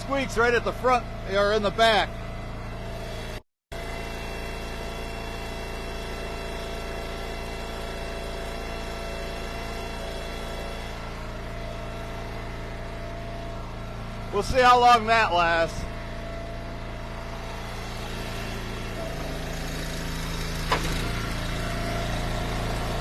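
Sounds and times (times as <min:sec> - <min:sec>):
gas engine idling: 0:04.0 - 0:23.0.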